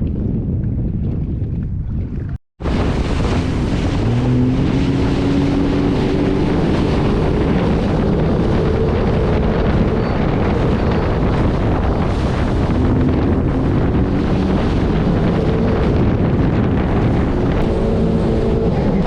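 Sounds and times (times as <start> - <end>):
wind buffeting microphone: 0.0 - 19.0
jet ski engine: 2.6 - 19.0
rushing water: 2.6 - 19.0.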